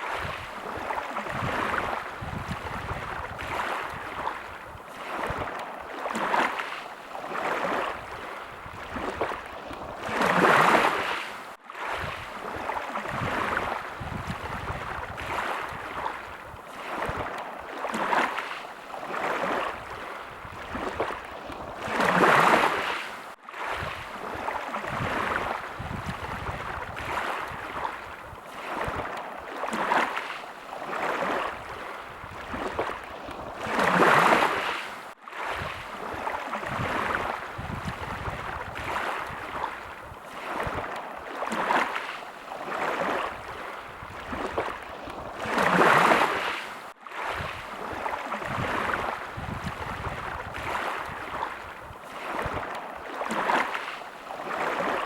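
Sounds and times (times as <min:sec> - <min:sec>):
small waves lapping: 0:00.0 - 0:55.0
water splashes: 0:00.0 - 0:55.0.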